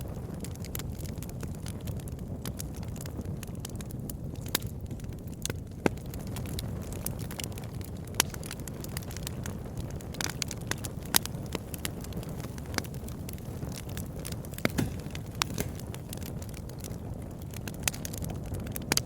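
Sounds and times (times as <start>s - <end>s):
burning wood popping: 0.0s - 19.0s
campfire crackling and hissing: 0.0s - 19.0s.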